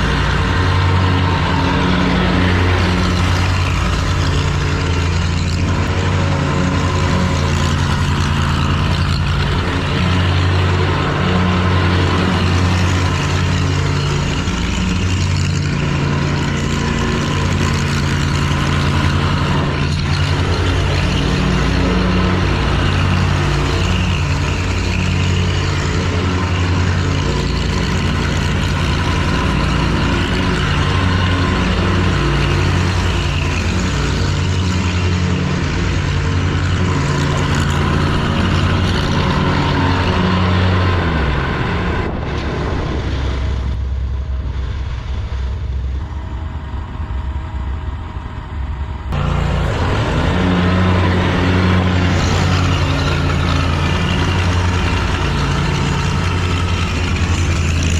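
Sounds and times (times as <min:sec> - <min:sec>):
lawn mower engine running: 0:00.0 - 0:57.9.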